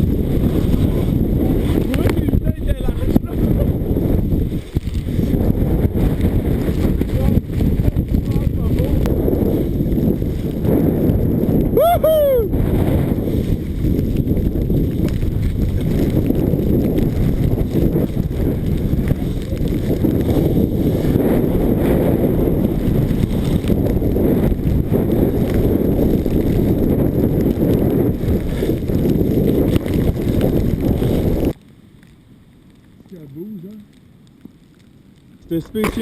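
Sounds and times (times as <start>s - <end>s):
wind buffeting microphone: 0.0s - 31.6s.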